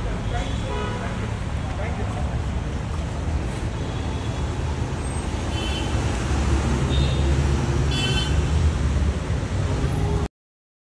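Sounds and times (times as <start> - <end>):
traffic rumble: 0.0 - 10.3.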